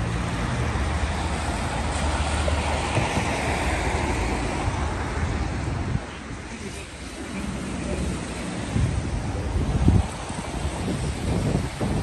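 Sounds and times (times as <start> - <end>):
cars passing on wet road: 0.0 - 12.0.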